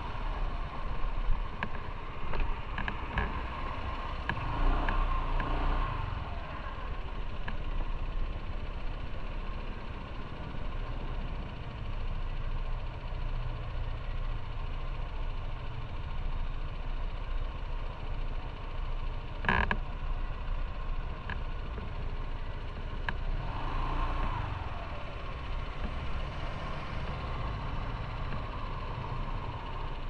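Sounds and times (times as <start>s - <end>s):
broad engine noise: 0.0s - 30.0s
motorcycle engine idling: 0.0s - 30.0s.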